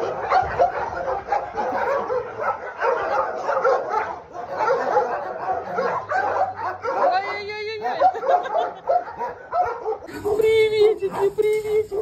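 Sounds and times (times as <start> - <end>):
many dogs barking: 0.0 - 12.0.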